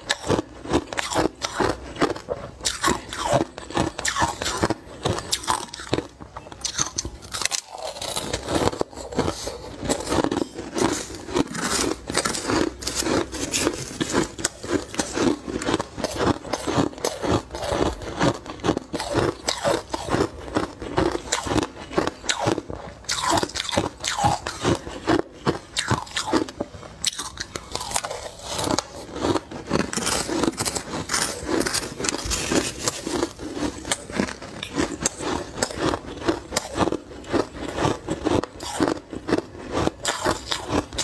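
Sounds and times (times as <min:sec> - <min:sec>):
ice being chewed: 0:00.0 - 0:41.0.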